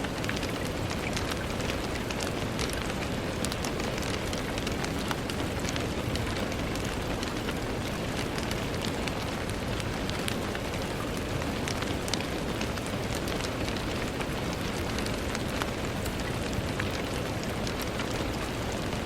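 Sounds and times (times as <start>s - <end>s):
rain hiss on window: 0.0s - 19.0s
raindrops ticking on glass: 0.0s - 19.0s.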